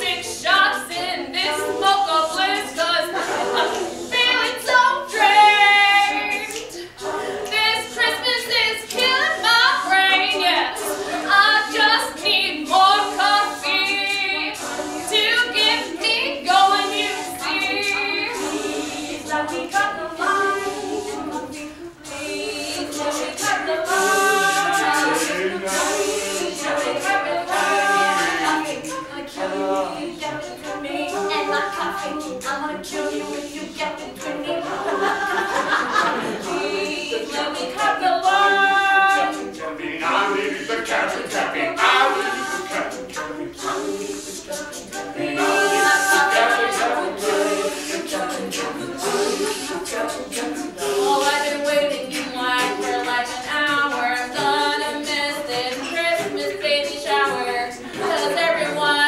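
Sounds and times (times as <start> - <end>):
group singing a cappella: 0.0 - 59.0.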